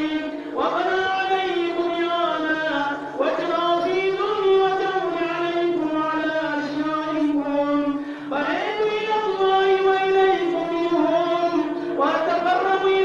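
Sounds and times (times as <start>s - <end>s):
person chanting mournful lament: 0.0s - 13.0s.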